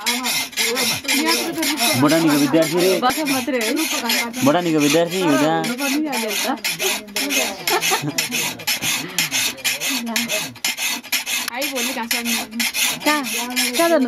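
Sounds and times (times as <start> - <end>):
file rasping on steel blade: 0.0 - 14.0.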